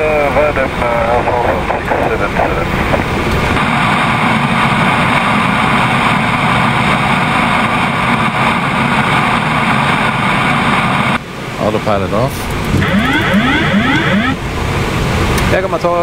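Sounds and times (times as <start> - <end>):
jet engine noise: 0.0 - 16.0.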